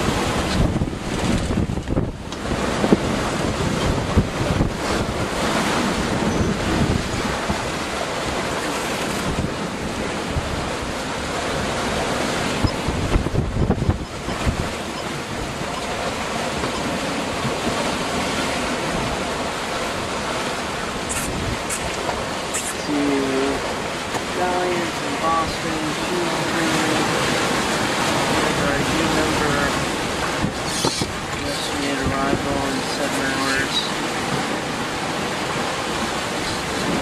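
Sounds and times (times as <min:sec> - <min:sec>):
wind buffeting microphone: 0:00.0 - 0:32.8, 0:33.5 - 0:37.0
ocean waves rushing: 0:00.0 - 0:37.0.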